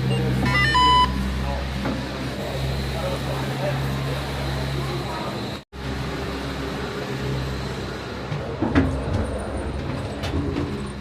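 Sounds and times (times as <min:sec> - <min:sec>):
cable car cabin rumbling: 0:00.0 - 0:11.0.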